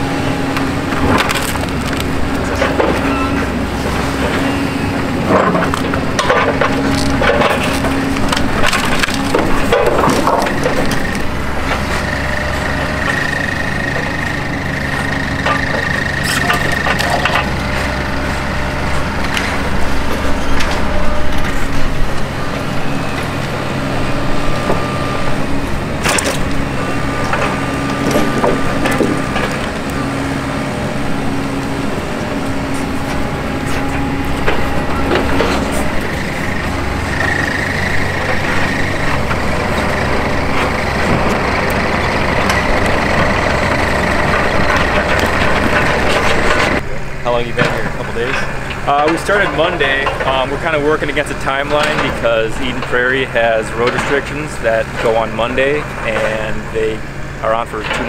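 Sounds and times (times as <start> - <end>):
excavator diesel engines under load: 0.0 - 58.0
high steady whine: 0.0 - 58.0
wood and debris crunching: 0.0 - 58.0.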